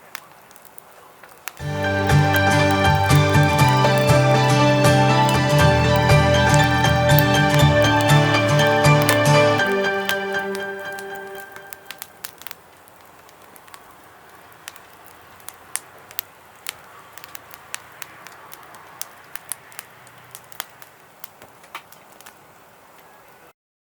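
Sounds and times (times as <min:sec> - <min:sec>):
campfire crackling and popping: 0:00.0 - 0:23.5.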